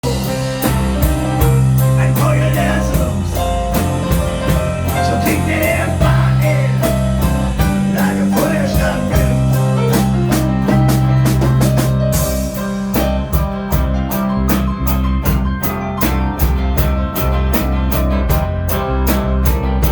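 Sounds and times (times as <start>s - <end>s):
live blues band playing: 0.0s - 19.9s.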